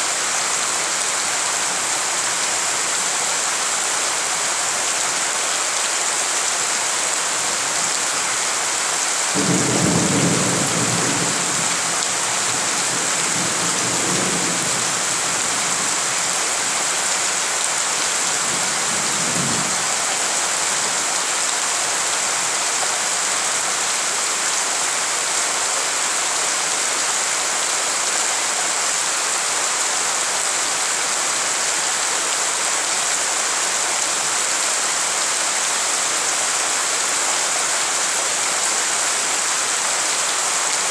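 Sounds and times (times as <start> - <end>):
heavy rain on puddled ground: 0.0 - 40.9.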